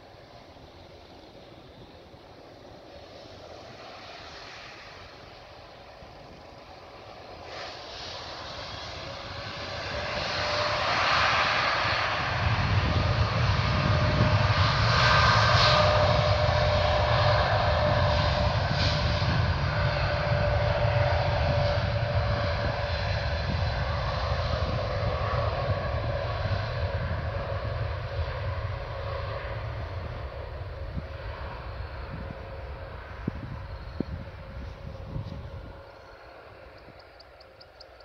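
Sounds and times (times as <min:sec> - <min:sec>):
jet engines whining and rumbling: 0:00.0 - 0:38.0.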